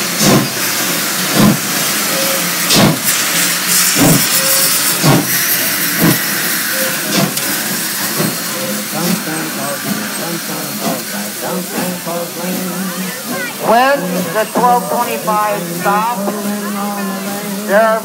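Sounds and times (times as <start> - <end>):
steam locomotive hissing steam: 0.0 - 18.0.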